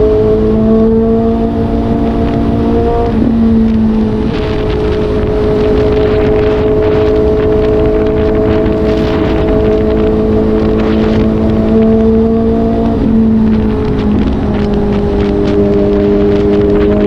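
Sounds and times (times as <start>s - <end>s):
motorcycle engine pulling: 0.0s - 17.0s
wind on microphone: 0.0s - 17.0s.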